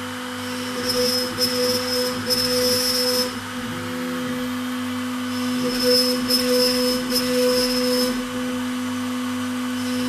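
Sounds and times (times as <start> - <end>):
router spindle whining: 0.0 - 10.0.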